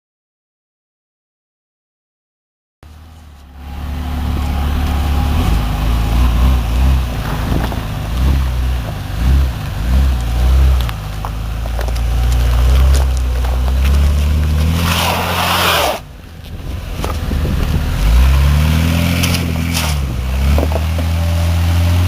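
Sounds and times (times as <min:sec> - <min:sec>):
engine deep rumble: 0:02.8 - 0:22.0.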